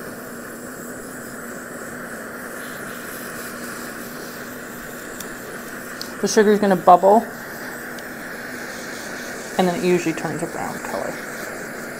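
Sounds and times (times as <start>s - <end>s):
kitchen torch flame hissing: 0.0s - 11.9s.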